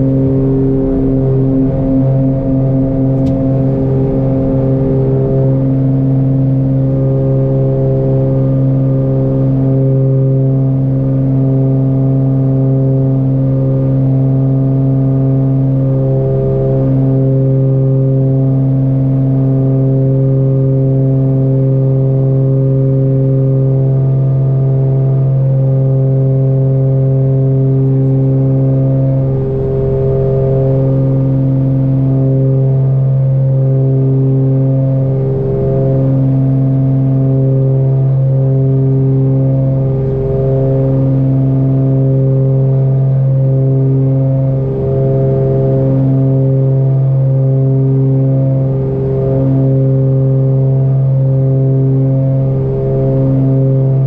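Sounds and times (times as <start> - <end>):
aircraft engines droning in cockpit: 0.0 - 54.0.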